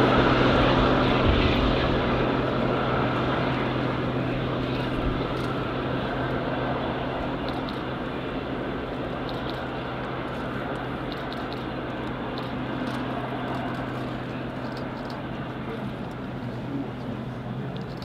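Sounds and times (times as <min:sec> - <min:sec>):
diesel locomotive engine drone: 0:00.0 - 0:18.0
wheels rumbling on rails: 0:00.0 - 0:18.0.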